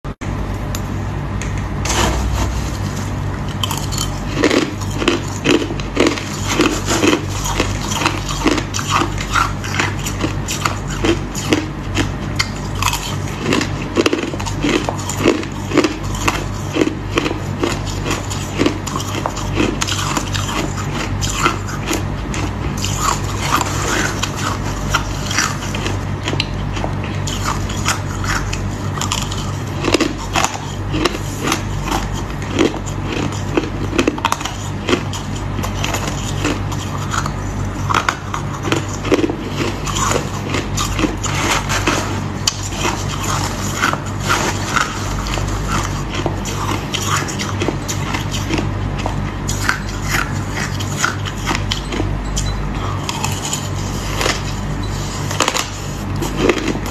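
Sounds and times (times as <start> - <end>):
ice being chewed: 1.9 - 56.9.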